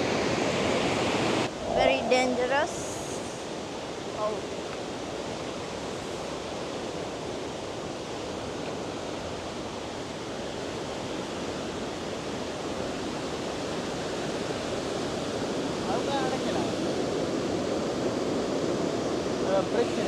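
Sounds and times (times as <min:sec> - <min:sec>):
large waterfall rushing: 0:00.0 - 0:20.0.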